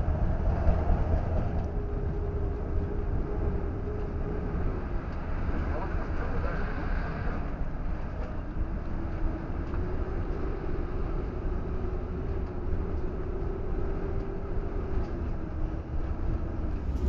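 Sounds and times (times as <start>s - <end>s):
vehicle interior road rumble: 0.0s - 17.0s.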